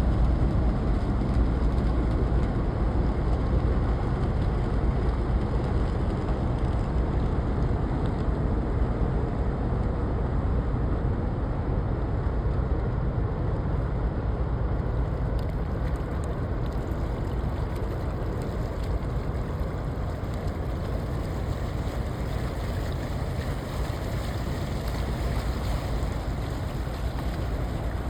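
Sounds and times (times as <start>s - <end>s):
ship engine rumble: 0.0s - 28.0s.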